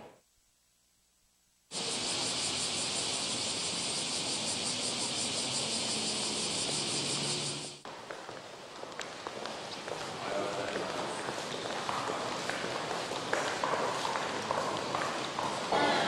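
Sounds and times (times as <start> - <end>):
cicadas buzzing: 1.7 - 8.6, 9.6 - 16.0
faint low street hum: 2.6 - 16.0.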